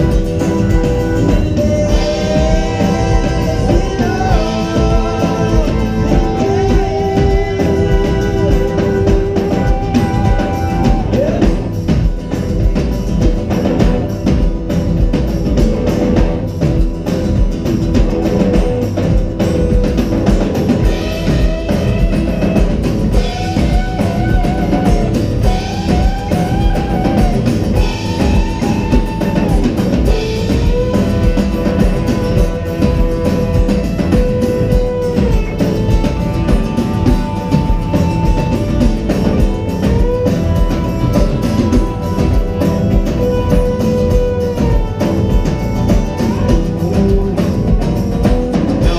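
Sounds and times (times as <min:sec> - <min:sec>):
lead guitar bending notes: 0:00.0 - 0:48.9
live rock band playing: 0:00.0 - 0:48.9.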